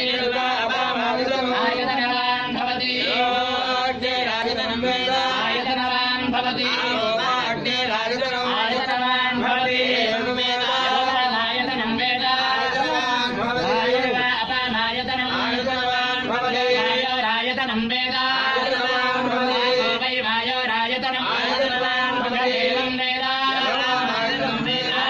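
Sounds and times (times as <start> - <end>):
person chanting a mantra: 0.0 - 25.0.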